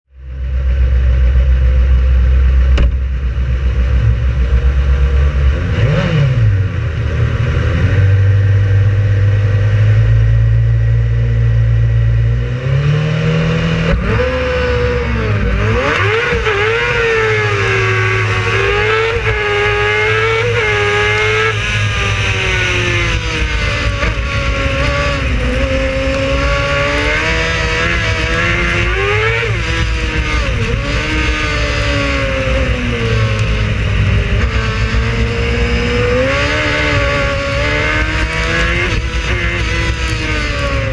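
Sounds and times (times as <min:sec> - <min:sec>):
race car engine revving: 0:00.6 - 0:40.9.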